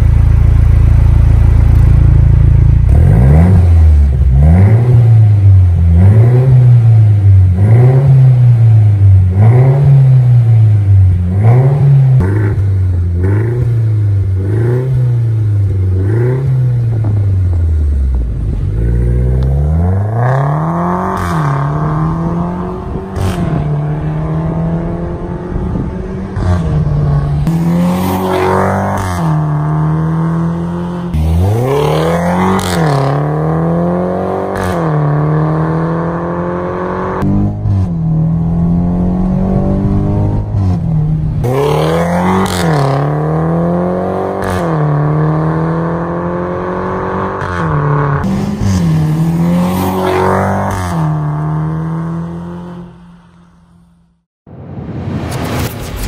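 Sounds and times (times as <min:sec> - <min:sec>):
car engine revving: 0:00.0 - 0:54.2.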